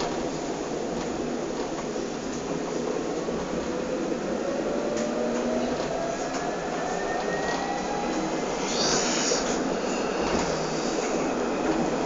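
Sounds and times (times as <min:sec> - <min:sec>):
tram wheels rumbling on rail: 0:00.0 - 0:12.0.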